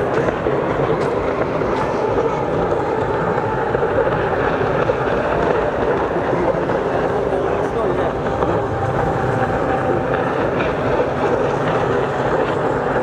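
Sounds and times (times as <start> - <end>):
jet ski engines droning: 0.0 - 13.0.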